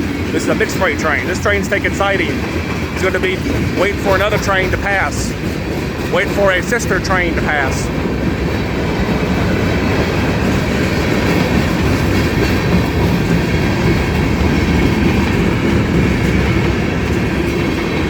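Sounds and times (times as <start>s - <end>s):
steel train wheels on rails: 0.0s - 18.0s.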